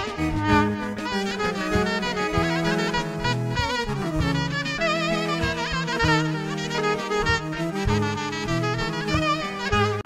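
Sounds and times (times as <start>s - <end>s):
bass notes: 0.0s - 10.0s
clarinet melody: 0.0s - 10.0s
rhythmic accompaniment: 0.0s - 10.0s.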